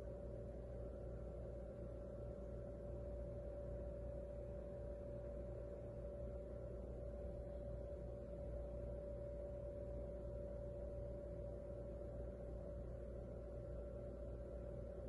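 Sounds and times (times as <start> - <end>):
constant mid-pitched tone: 0.0 - 15.0.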